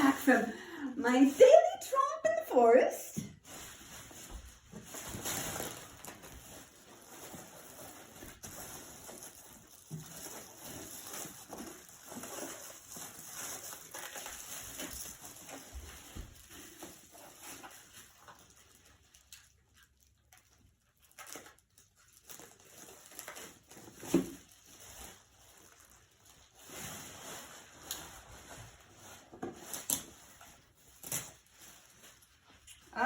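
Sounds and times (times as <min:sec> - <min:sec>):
packaging rustling and scraping: 0:03.4 - 0:32.9.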